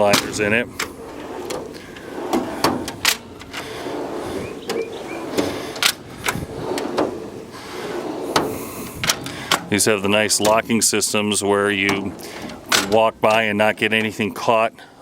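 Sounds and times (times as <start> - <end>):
tool chest drawers sliding: 0.0 - 14.1.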